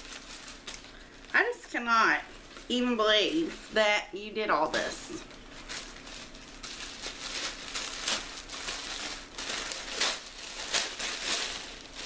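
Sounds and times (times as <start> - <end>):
wrapping paper crinkling: 0.0 - 12.0.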